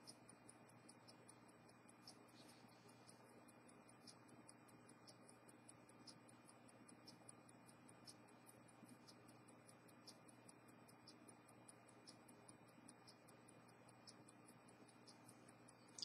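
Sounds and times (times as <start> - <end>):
low steady hum: 0.0 - 16.0
wristwatch ticking: 0.0 - 16.0.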